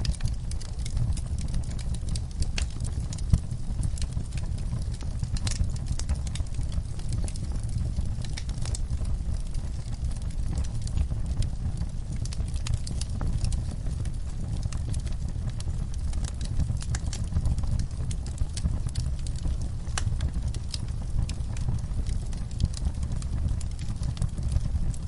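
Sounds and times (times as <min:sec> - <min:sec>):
logs crackling and snapping: 0:00.0 - 0:25.0
low rumble of flames: 0:00.0 - 0:25.0.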